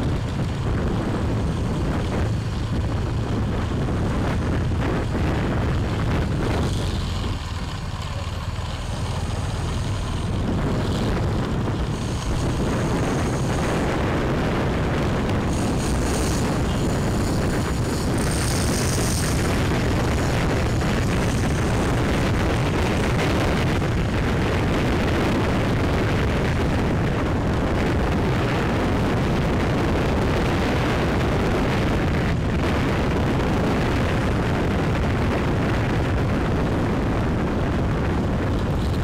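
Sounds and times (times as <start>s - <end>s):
motorbike engine: 0.0s - 39.0s
road noise: 0.0s - 39.0s
wind buffeting microphone: 0.0s - 39.0s.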